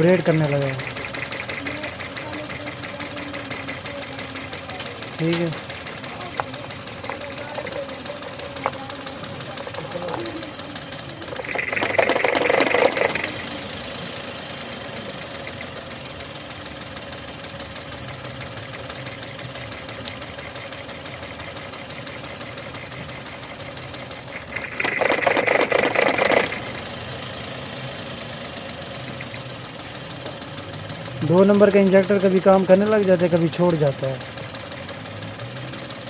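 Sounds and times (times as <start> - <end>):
car engine idling roughly: 0.0 - 36.0.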